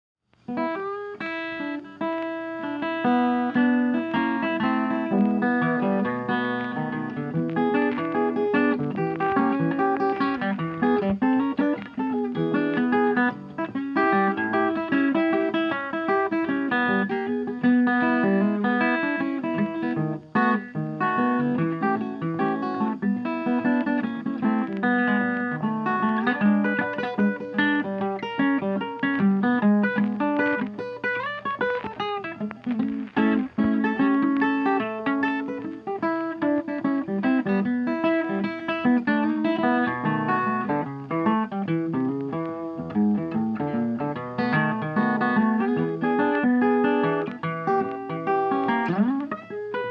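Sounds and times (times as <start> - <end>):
blues guitar music with steady beat: 0.3 - 49.9.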